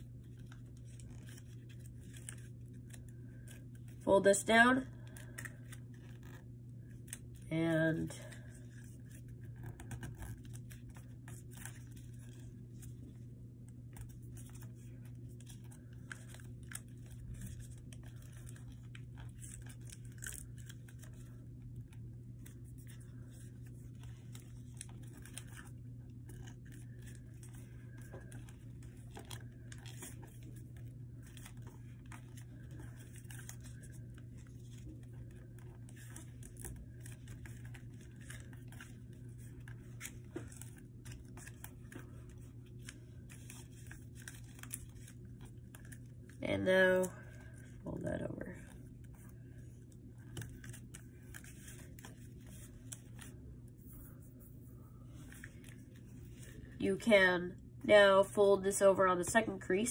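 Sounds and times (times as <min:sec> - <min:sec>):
paper rustling and crinkling: 0:00.0 - 0:04.0, 0:08.0 - 0:56.8
steady low hum: 0:00.0 - 0:59.9.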